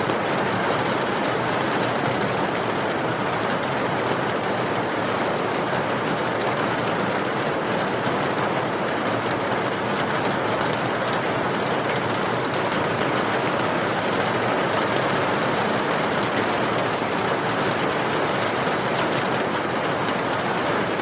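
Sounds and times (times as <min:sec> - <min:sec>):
rain falling: 0:00.1 - 0:21.0.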